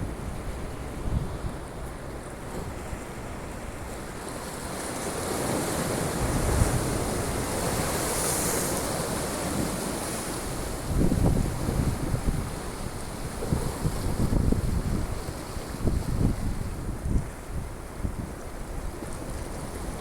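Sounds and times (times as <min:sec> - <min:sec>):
wind buffeting microphone: 0:00.0 - 0:08.7, 0:10.3 - 0:20.0
sea waves surging: 0:00.0 - 0:20.0.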